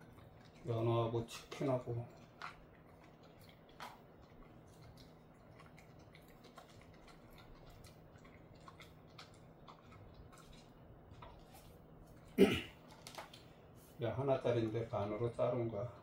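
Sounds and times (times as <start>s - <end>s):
dog chewing a crunchy treat: 0.0s - 13.5s.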